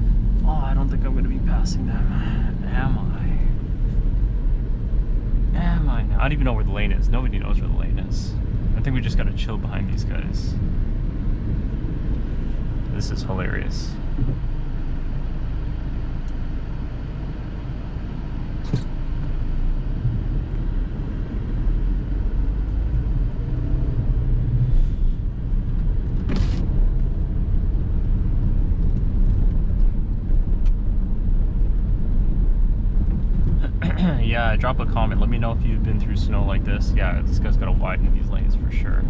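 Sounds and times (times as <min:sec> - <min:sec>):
car driving on snow: 0:00.0 - 0:39.0.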